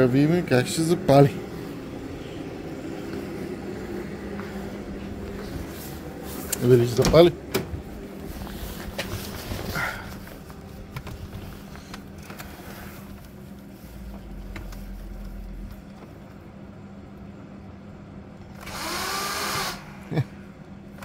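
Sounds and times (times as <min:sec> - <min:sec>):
low rumble: 0:00.0 - 0:11.6, 0:13.0 - 0:18.3
steady low hum: 0:00.0 - 0:21.0.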